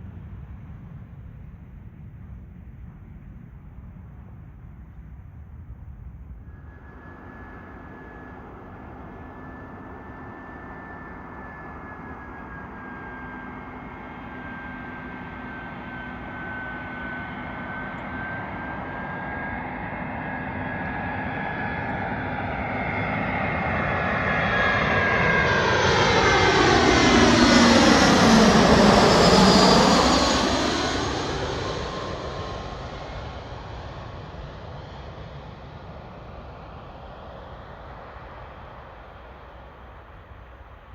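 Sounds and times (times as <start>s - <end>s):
jet engine whine: 0.0s - 40.9s
jet engine hum: 6.2s - 40.9s.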